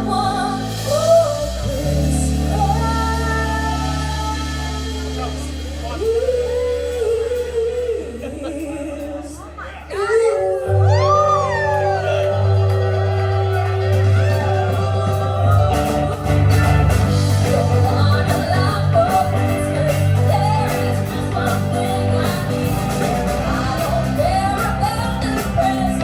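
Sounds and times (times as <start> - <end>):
bass notes: 0.0 - 26.0
guitar: 0.0 - 26.0
live pop band playing: 0.0 - 26.0
person singing: 0.0 - 26.0.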